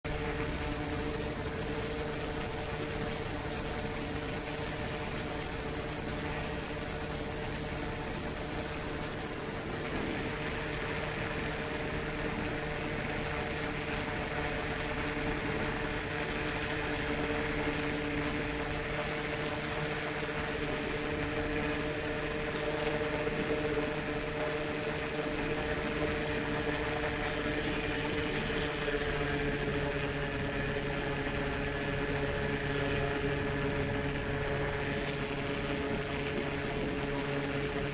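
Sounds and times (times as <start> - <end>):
paramotor engine humming: 0.0 - 37.9.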